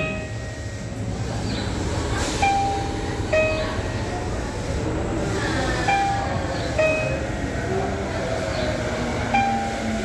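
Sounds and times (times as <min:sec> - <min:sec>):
arriving train rumble: 0:00.0 - 0:10.0.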